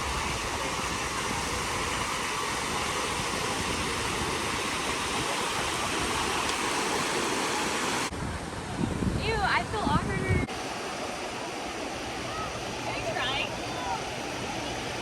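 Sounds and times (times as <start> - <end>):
surf rushing: 0.0 - 15.0
wind: 0.0 - 15.0.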